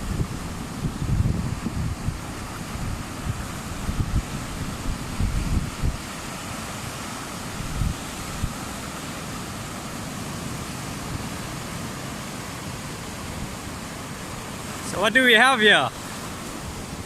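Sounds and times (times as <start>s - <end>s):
wind buffeting microphone: 0.0s - 14.1s
sea surf: 0.0s - 17.0s.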